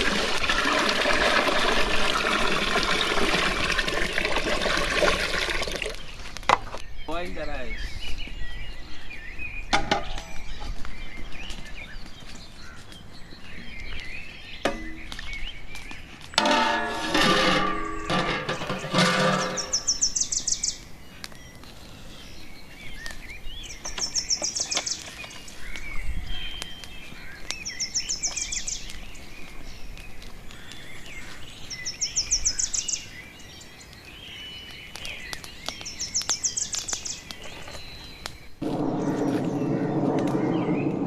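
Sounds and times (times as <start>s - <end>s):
birds chirping and whistling: 6.0s - 41.0s.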